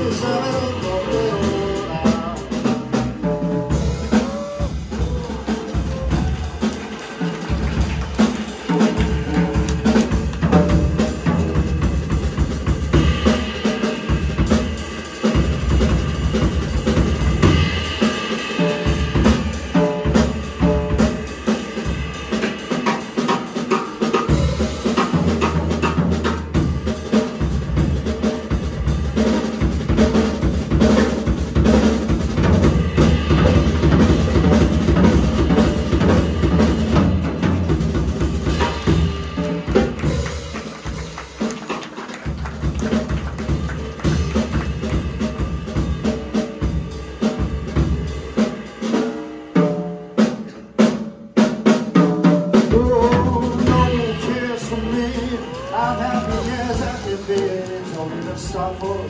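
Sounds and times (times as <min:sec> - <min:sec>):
drum kit hits: 0:00.0 - 0:59.0
jazz band playing: 0:00.0 - 0:59.0.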